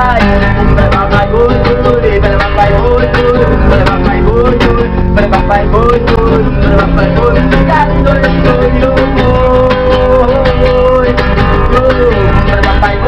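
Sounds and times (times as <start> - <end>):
man singing: 0.0 - 13.0
strummed acoustic guitar: 0.0 - 13.0.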